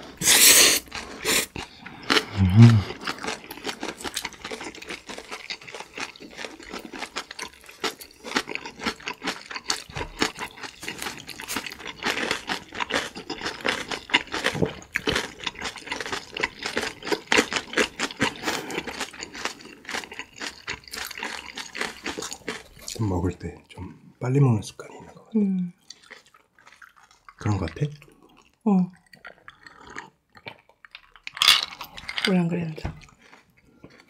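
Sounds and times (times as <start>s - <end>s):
wet chewing and smacking: 0.8s - 23.8s, 24.8s - 34.0s.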